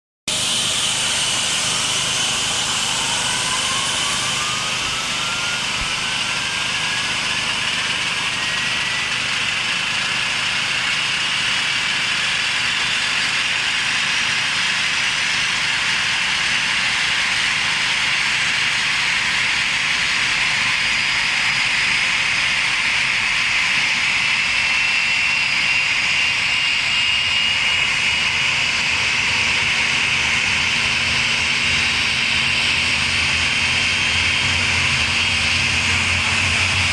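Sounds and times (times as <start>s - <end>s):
jet engine running: 0.3s - 36.9s.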